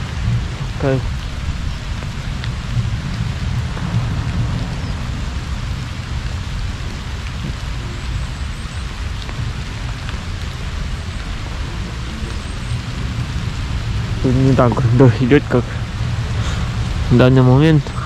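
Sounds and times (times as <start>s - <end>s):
heavy rain falling: 0.0s - 18.0s
low rumble: 0.0s - 18.0s
raindrop ticks: 0.0s - 18.0s.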